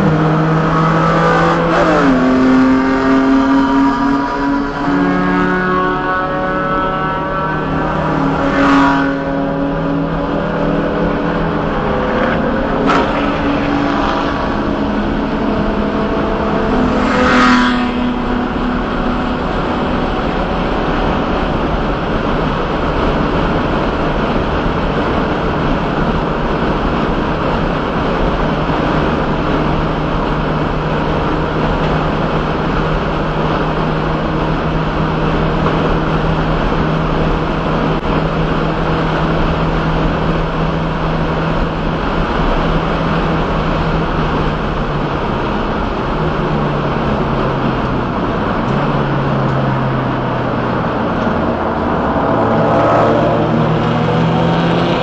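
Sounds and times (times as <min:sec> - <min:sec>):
race car engine at high revs: 0:00.0 - 0:55.0
wind and road noise: 0:00.0 - 0:55.0.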